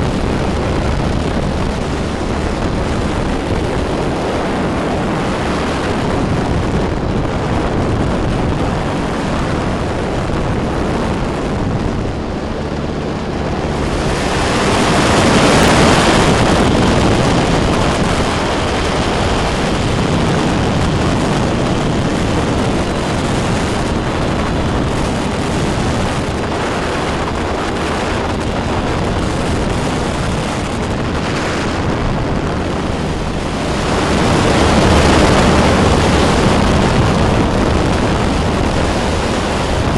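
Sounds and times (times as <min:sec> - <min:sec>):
engine and propeller running: 0:00.0 - 0:39.9
wind rushing over microphone: 0:00.0 - 0:39.9.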